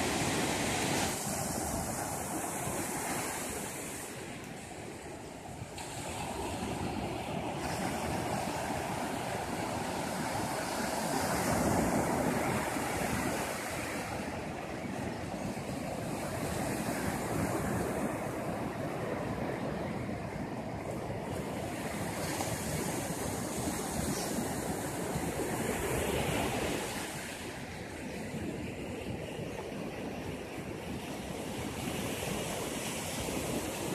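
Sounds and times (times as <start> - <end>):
waves washing up a beach: 0.0 - 33.9.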